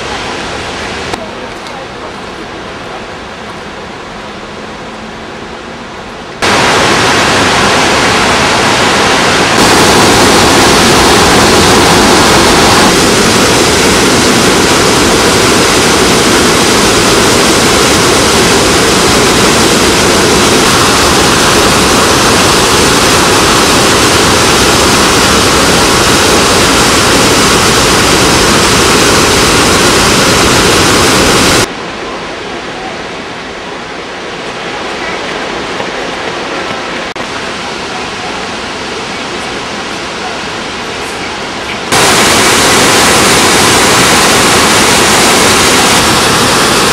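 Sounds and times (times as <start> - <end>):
waterfall rushing: 6.4 - 46.9.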